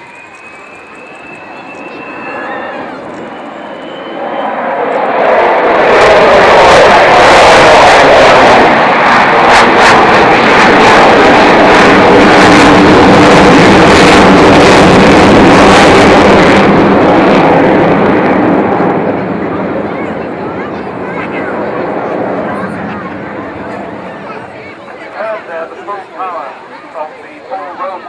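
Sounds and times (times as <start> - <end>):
jet engines roaring in close pass: 0.0 - 28.0.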